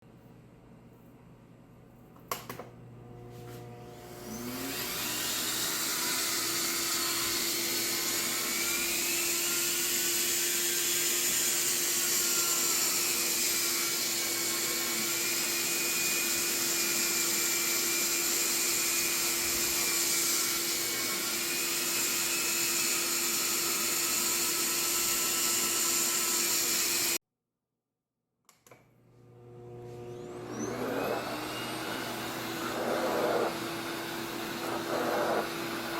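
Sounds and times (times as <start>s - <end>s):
pet grooming vacuum running: 3.0s - 27.2s, 29.1s - 35.9s.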